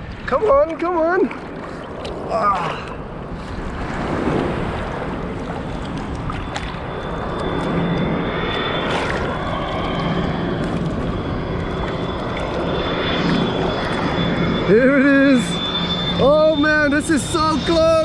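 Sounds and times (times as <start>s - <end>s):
jet engine high whine: 0.0s - 18.0s
jet engines loud rush: 1.1s - 18.0s.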